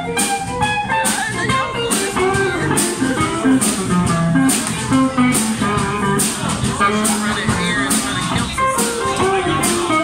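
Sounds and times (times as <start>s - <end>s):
acoustic guitar: 0.0s - 10.0s
bass guitar: 0.0s - 10.0s
drums: 0.0s - 10.0s.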